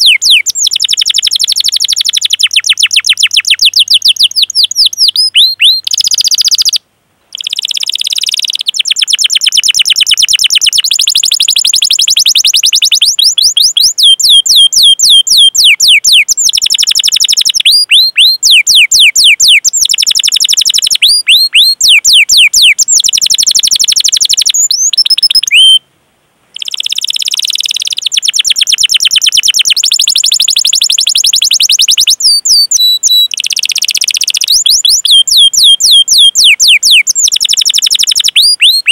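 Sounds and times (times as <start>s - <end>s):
canary singing: 0.0s - 25.8s, 26.5s - 38.9s.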